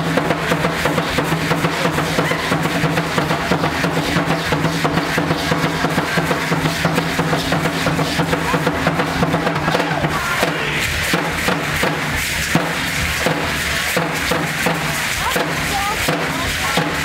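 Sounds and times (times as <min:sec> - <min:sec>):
fast ceremonial drumming: 0:00.0 - 0:17.0.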